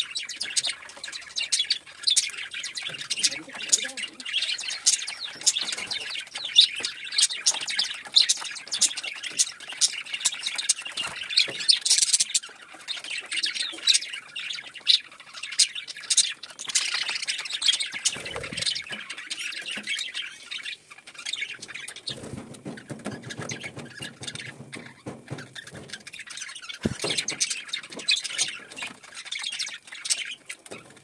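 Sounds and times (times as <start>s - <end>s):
budgerigars chirping and squawking: 0.0s - 31.0s.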